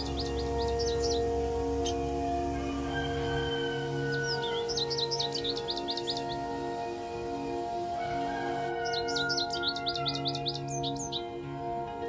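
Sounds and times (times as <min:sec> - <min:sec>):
bird chirping: 0:00.0 - 0:11.4
calm music of held chords: 0:00.0 - 0:12.0.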